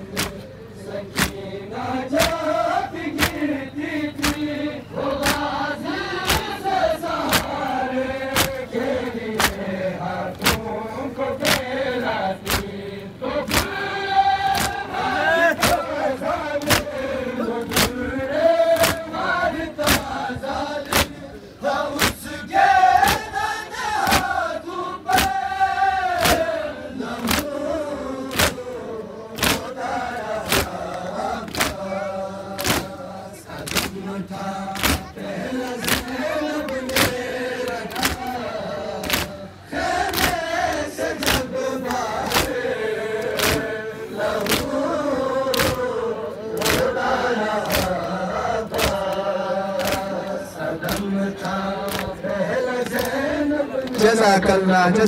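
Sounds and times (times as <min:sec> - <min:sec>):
men chanting in chorus: 0:00.0 - 0:55.0.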